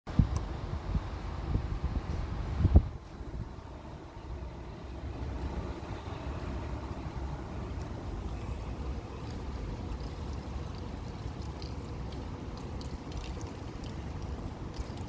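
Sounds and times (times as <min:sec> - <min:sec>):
gusty wind buffeting microphone: 0:00.1 - 0:15.0.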